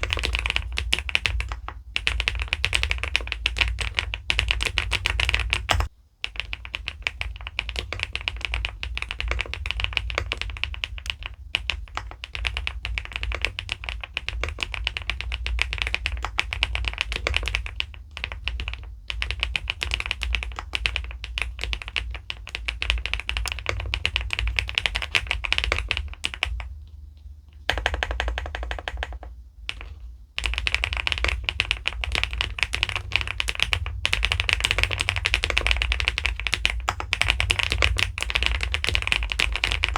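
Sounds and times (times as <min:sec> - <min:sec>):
mechanical keyboard typing: 0:00.0 - 0:26.7, 0:27.6 - 0:39.9.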